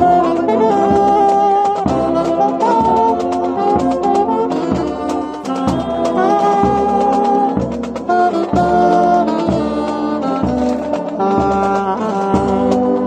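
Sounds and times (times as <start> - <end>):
bass drum beating: 0.0 - 13.0
marching brass band playing: 0.0 - 13.0
saxophone playing close: 0.0 - 13.0.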